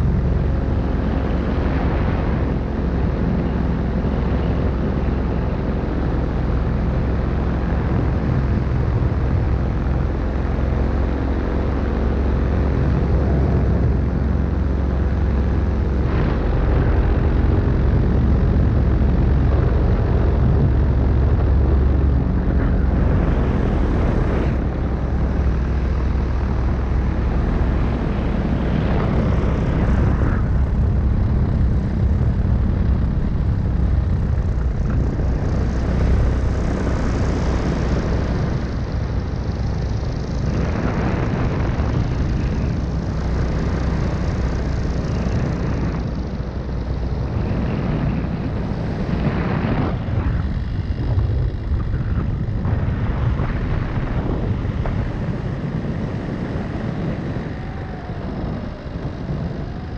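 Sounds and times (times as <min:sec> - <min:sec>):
propeller aircraft engine running: 0:00.0 - 0:59.9
wind rushing over microphone: 0:00.0 - 0:59.9.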